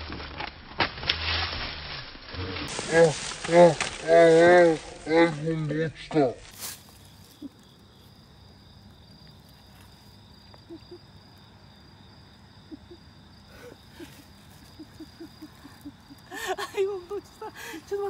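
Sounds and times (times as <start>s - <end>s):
night insects chirping: 2.4s - 18.0s.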